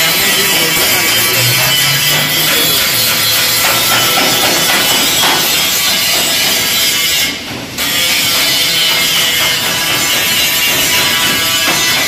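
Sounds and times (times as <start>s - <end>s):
angle grinder grinding steel: 0.0s - 12.0s.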